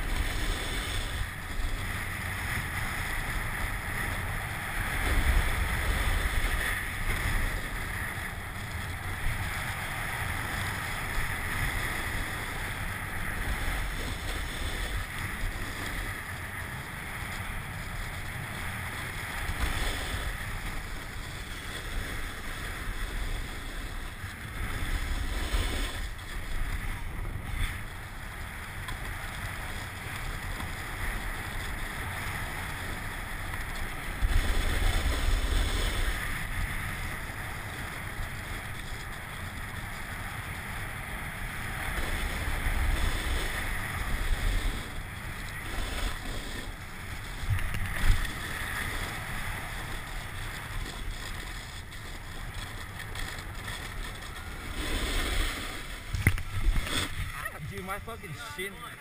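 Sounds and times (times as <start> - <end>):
snowboard scraping on snow: 0.0 - 59.0
wind rumbling on microphone: 0.0 - 59.0.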